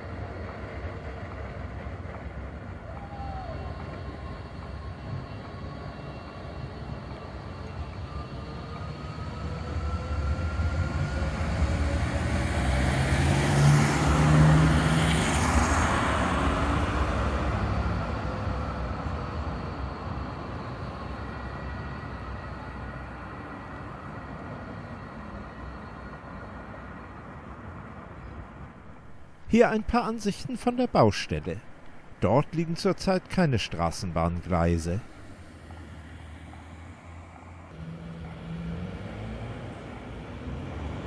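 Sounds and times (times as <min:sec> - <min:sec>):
tram motor whine: 0:00.0 - 0:29.4, 0:35.1 - 0:41.0
tram wheels rumbling: 0:00.0 - 0:41.0.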